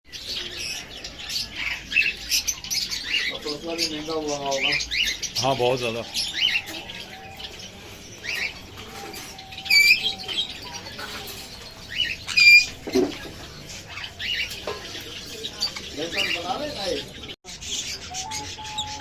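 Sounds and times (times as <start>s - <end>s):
sharp bird calls: 0.1s - 19.0s
small birds chirping: 0.1s - 19.0s.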